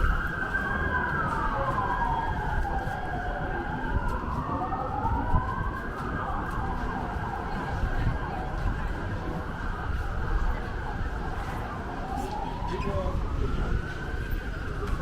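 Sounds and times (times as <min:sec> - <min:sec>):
emergency vehicle siren wailing: 0:00.0 - 0:15.0
street traffic noise: 0:00.0 - 0:15.0.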